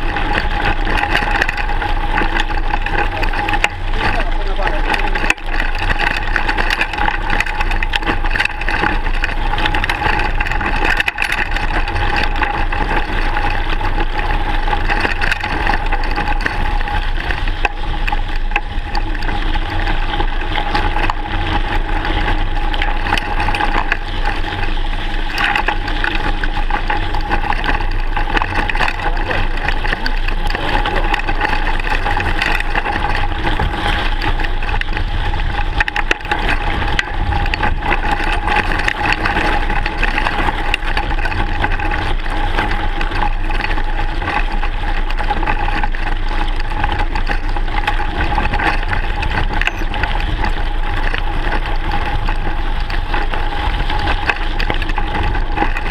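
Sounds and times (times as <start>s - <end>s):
bike rattling: 0.0s - 55.9s
bike tyres crunching on gravel: 0.0s - 55.9s
wind rumble on microphone: 0.0s - 55.9s.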